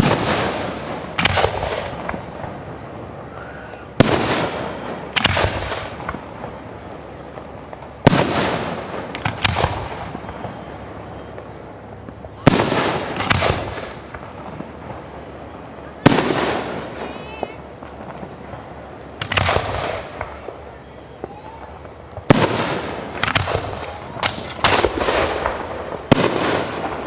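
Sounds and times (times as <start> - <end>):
fireworks booming with echo: 0.0 - 27.0.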